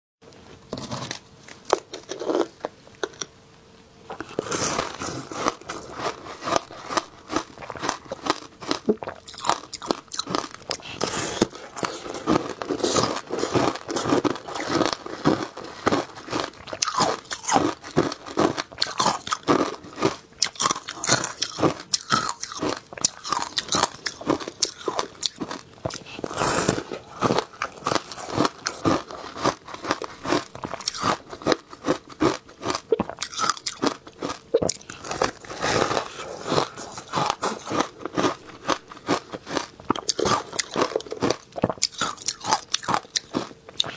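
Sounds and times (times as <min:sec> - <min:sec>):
crunching shaved ice: 0:04.2 - 0:43.9.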